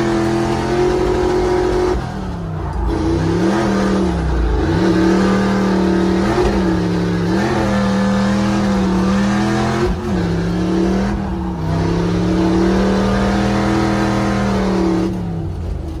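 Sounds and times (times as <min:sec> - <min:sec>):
truck engine revving high: 0:00.0 - 0:15.7.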